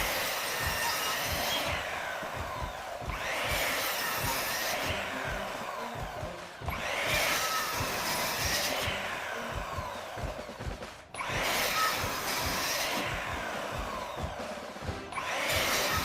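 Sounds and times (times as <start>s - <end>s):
power tool cutting wood: 0.0s - 16.0s.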